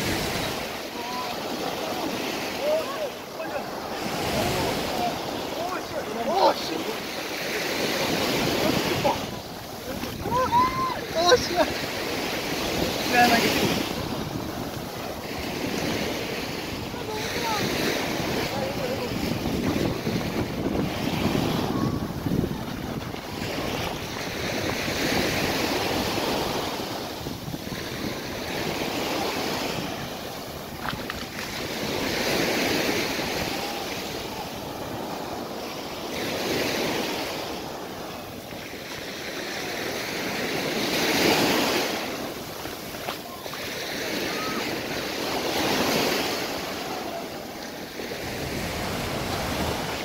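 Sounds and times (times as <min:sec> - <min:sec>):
wind on microphone: 0:00.0 - 0:01.3, 0:08.0 - 0:39.2, 0:40.0 - 0:50.0
sea waves breaking on beach: 0:00.0 - 0:50.0.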